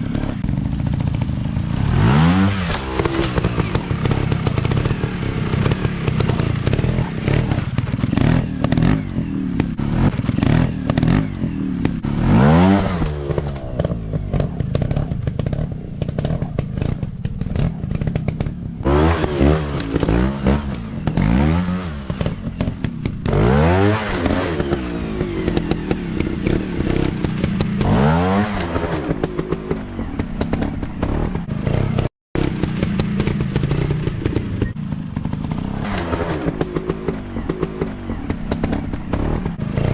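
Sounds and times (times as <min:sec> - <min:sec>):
clatter: 0:00.0 - 0:39.9
dirt bike engine revving: 0:00.0 - 0:39.9.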